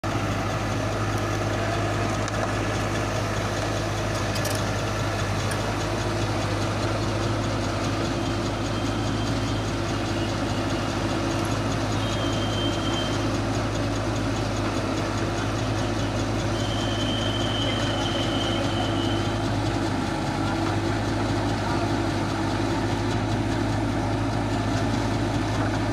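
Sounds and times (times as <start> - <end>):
excavator diesel engine: 0.0 - 25.9.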